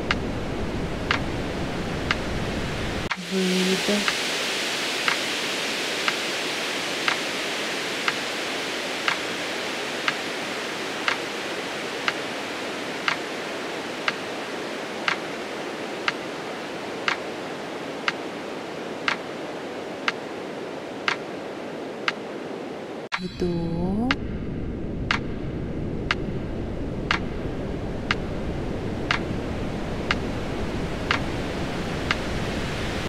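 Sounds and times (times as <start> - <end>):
steady rushing hiss: 0.0 - 23.2, 25.0 - 33.0.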